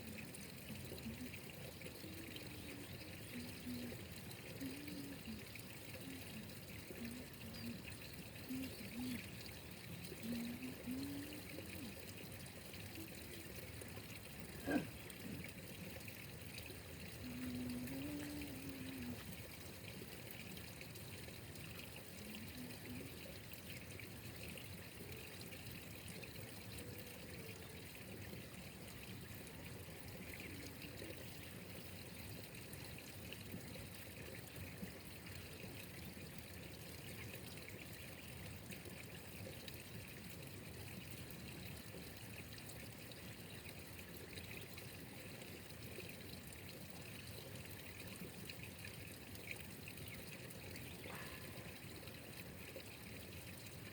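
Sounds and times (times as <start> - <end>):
water trickling: 0.0 - 53.9.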